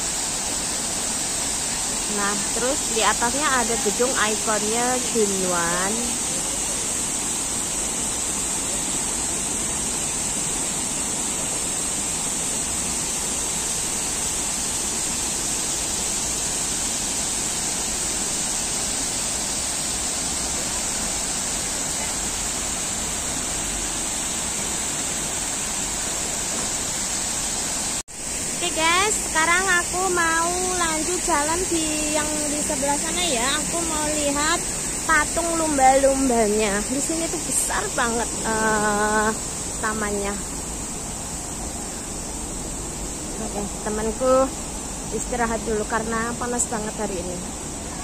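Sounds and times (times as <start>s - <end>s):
waterfall splashing into pond: 0.0s - 48.0s.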